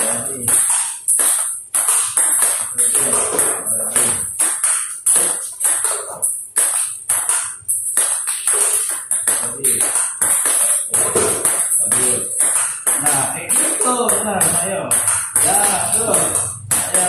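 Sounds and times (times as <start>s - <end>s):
ping pong ball clicking: 0.0s - 17.0s.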